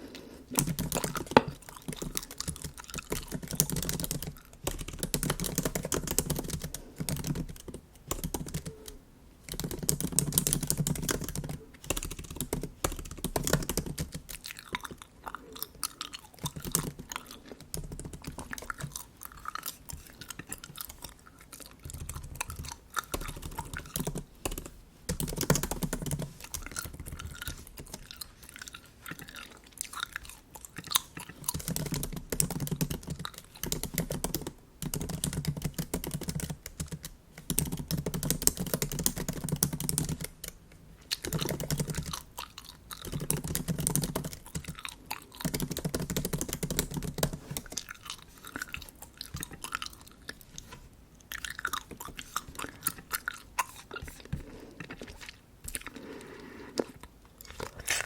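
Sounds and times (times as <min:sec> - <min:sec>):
gum chewing: 0:00.0 - 0:07.8, 0:13.3 - 0:24.6, 0:25.2 - 0:36.2, 0:38.4 - 0:58.0.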